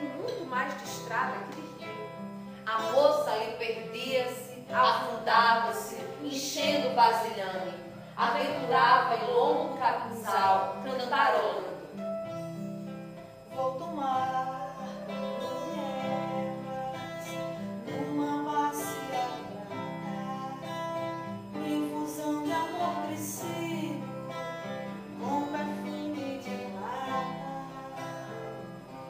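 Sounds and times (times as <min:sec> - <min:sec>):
acoustic guitars playing: 0:00.0 - 0:29.0
woman singing: 0:02.7 - 0:12.0, 0:13.5 - 0:24.4, 0:25.2 - 0:29.0.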